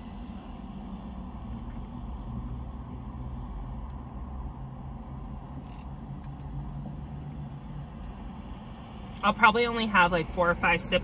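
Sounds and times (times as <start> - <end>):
car cabin hum and rumble: 0.0 - 11.0.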